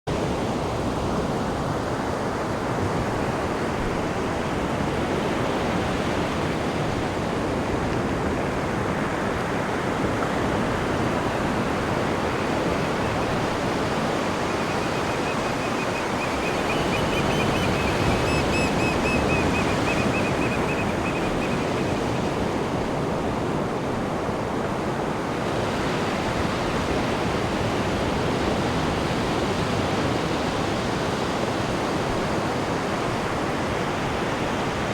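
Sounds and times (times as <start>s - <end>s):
sea waves breaking on shore: 0.1s - 34.9s.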